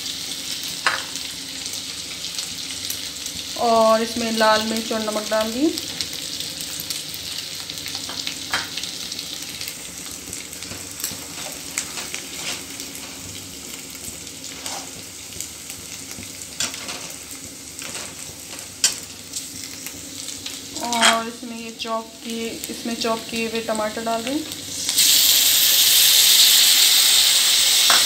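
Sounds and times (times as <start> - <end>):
masala sizzling in hot oil: 0.0 - 28.0.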